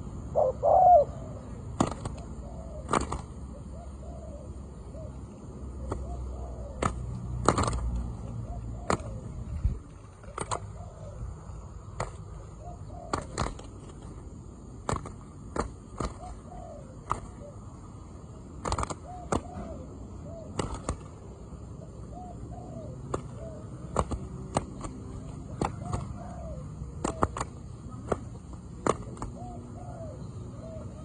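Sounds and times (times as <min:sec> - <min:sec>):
dove cooing: 0:00.0 - 0:14.7, 0:15.4 - 0:31.0.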